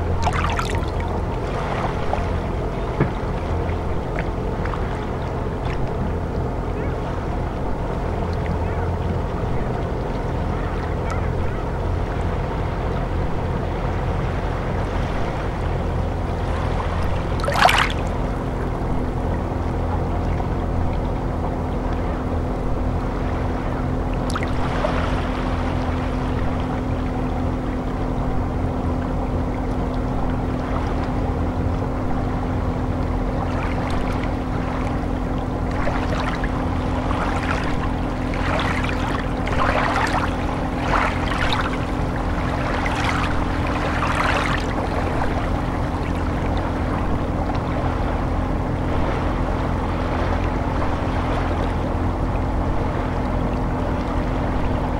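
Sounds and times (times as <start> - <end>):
light water splashes: 0.0 - 54.9
steady low hum: 0.0 - 54.9.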